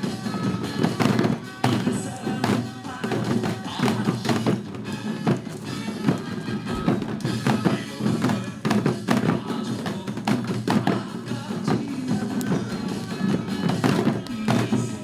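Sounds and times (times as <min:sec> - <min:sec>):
hourglass drum strokes: 0:00.0 - 0:15.0
recorded pop song: 0:00.0 - 0:15.0.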